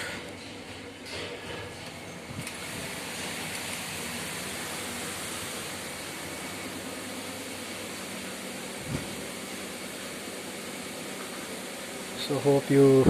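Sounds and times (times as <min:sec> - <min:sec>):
air conditioner hiss: 0:00.0 - 0:13.0.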